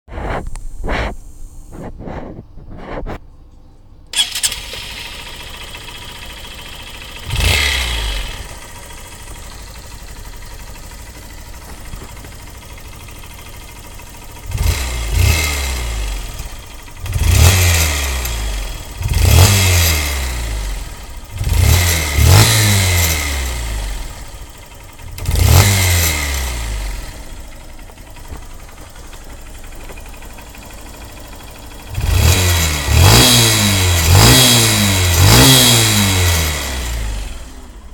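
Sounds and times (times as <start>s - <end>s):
motorcycle engine idling and revving: 0.1s - 3.2s, 4.1s - 37.9s.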